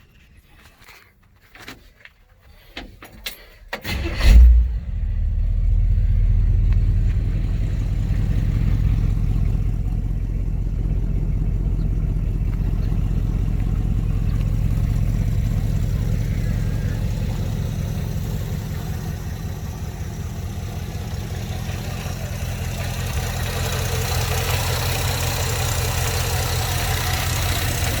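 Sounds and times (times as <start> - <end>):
engine cranking and starting: 3.4 - 28.0
engine idling: 3.8 - 28.0.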